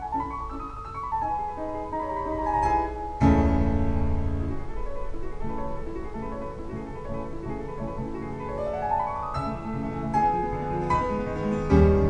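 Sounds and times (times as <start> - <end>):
classical piano music over loudspeakers: 0.0 - 12.0.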